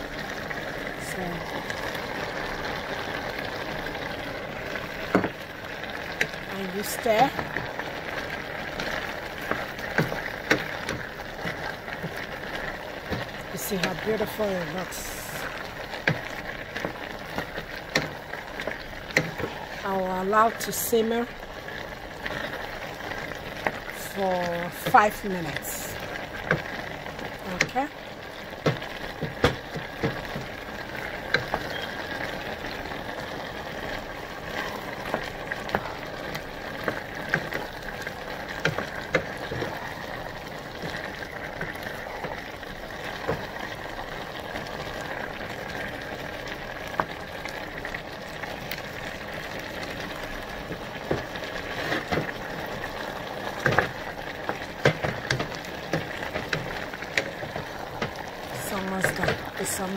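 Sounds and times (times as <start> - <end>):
vegetables simmering hiss: 0.0 - 59.9.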